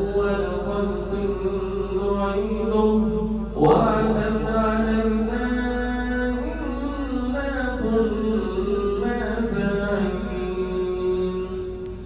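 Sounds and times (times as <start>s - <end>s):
man reciting melodic chant: 0.0s - 11.8s.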